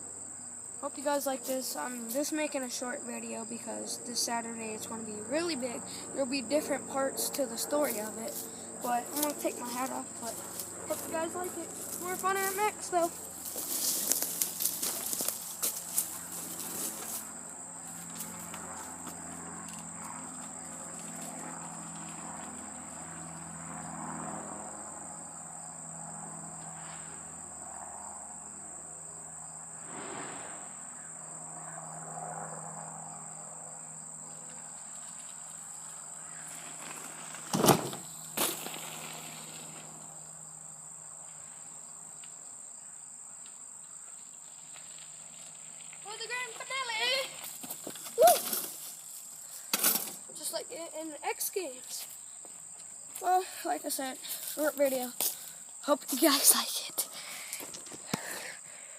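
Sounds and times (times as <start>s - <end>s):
insects chirring: 0.0s - 58.9s.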